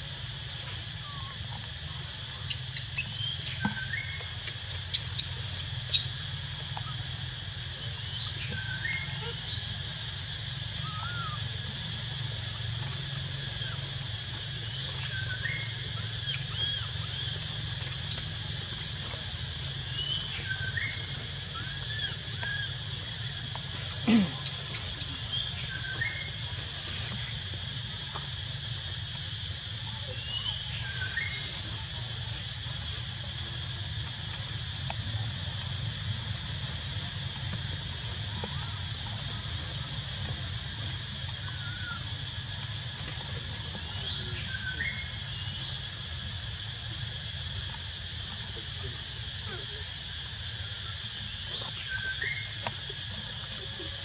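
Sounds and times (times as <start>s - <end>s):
high outdoor hiss: 0.0s - 54.0s.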